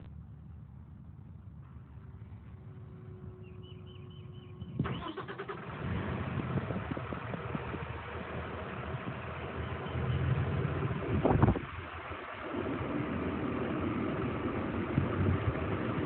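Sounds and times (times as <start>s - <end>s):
diesel engine cranking and running: 1.6s - 16.0s.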